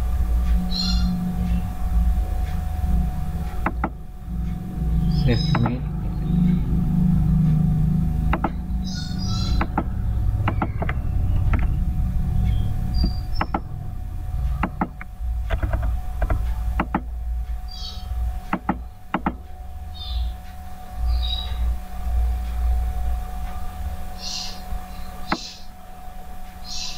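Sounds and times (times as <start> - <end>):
low rumble with faint hum: 0.0 - 26.9.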